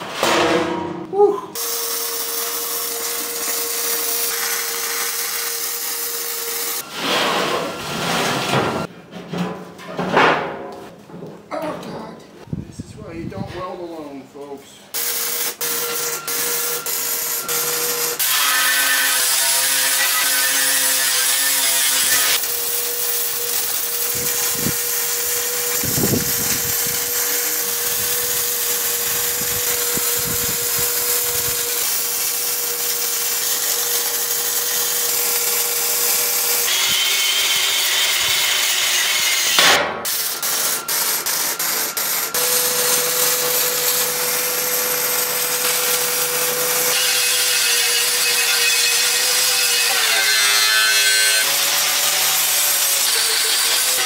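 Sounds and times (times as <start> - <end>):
angle grinder grinding steel: 1.6 - 7.0, 15.0 - 54.0.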